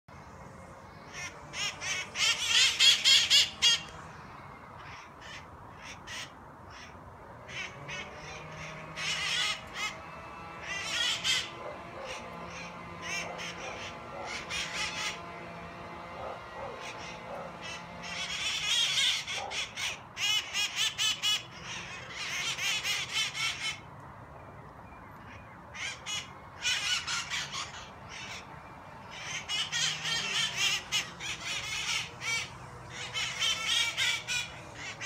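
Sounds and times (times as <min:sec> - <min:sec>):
parrots squawking: 0:00.9 - 0:23.9, 0:25.3 - 0:35.0.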